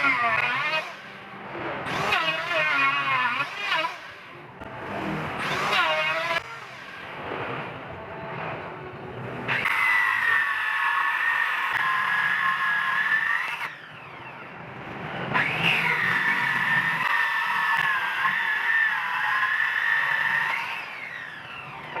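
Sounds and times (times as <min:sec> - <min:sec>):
power tool motor whining: 0:00.0 - 0:07.1, 0:09.5 - 0:14.5, 0:15.2 - 0:22.0.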